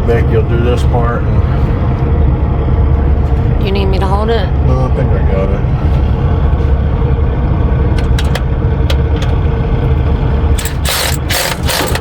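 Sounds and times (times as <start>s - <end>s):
diesel engine rumble: 0.0s - 12.0s.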